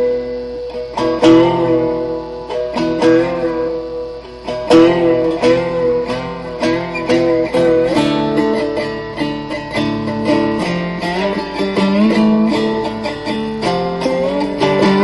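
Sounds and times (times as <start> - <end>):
slide guitar picked notes: 0.0 - 15.0.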